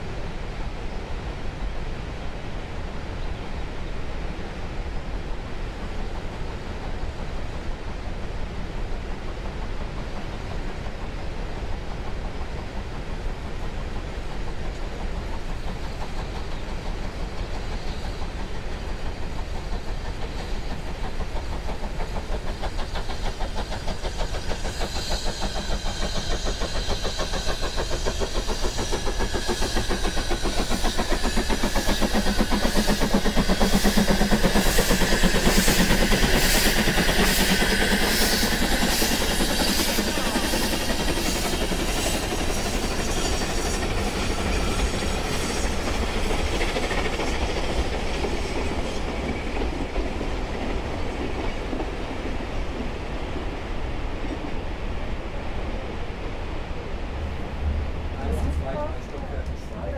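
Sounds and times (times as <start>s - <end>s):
steam locomotive exhaust chuffing: 4.2s - 59.9s.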